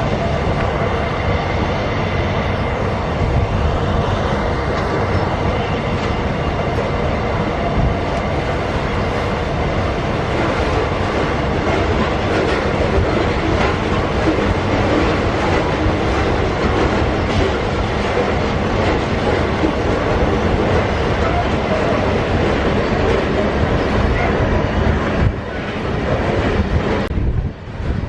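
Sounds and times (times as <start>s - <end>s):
rail clicks: 0.0s - 28.0s
train wheels rumbling on rail: 0.0s - 28.0s.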